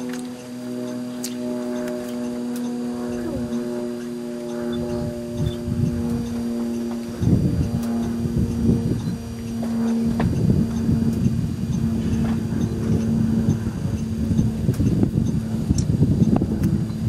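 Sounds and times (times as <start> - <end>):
low rumbling: 0.0 - 17.0.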